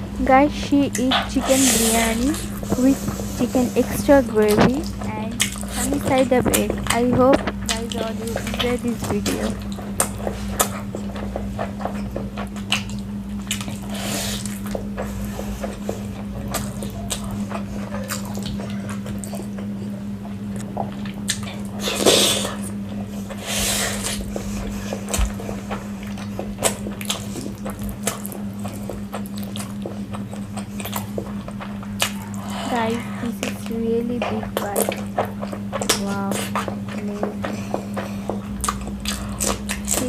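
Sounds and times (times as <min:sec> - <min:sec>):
steady low hum: 0:00.0 - 0:40.0
chewing with wet mouth clicks: 0:02.1 - 0:32.7, 0:33.3 - 0:40.0.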